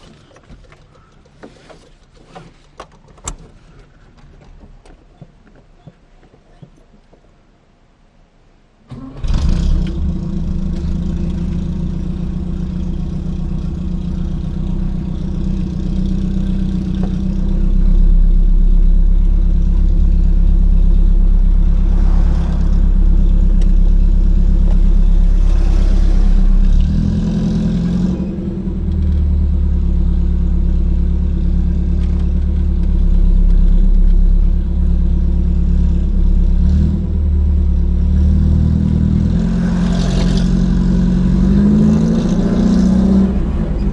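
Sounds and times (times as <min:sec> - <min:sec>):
car engine and exhaust drone: 0:00.0 - 0:43.9.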